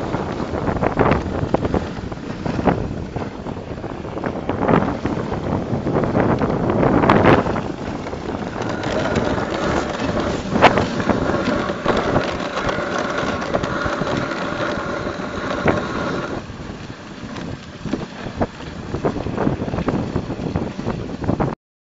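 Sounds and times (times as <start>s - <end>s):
sled runners hissing over snow: 0.0s - 21.4s
wind rushing over microphone: 0.0s - 21.6s.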